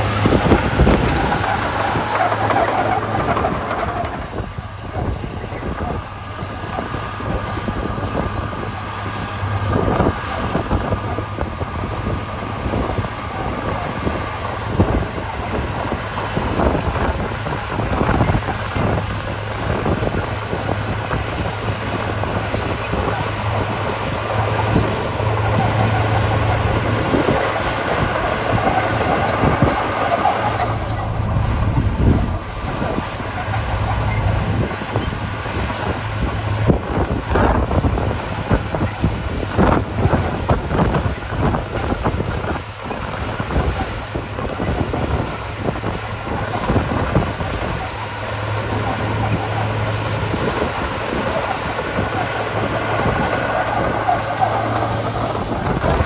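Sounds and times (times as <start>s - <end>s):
bulldozer diesel engine running: 0.0s - 56.0s
steel tracks clanking: 0.0s - 56.0s.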